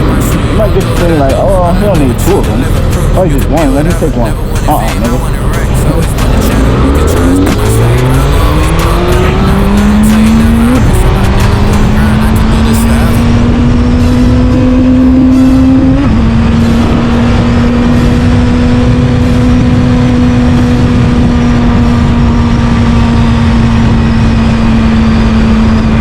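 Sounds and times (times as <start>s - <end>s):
moped motor humming: 0.0s - 26.0s.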